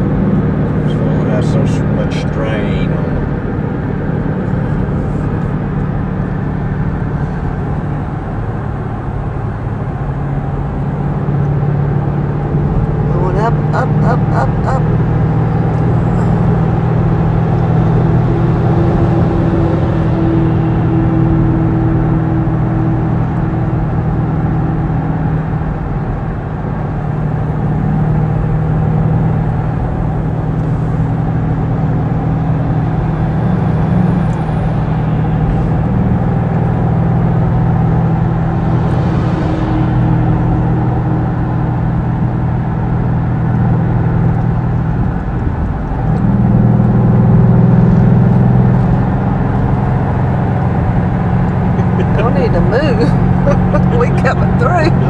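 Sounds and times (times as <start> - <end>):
car engine drone: 0.0 - 55.0
tyre and road noise: 0.0 - 55.0.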